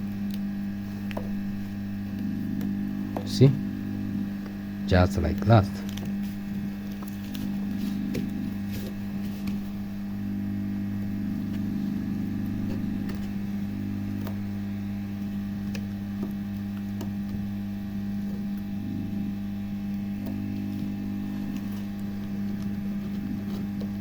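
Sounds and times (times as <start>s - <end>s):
hot-air tool humming: 0.0s - 24.0s.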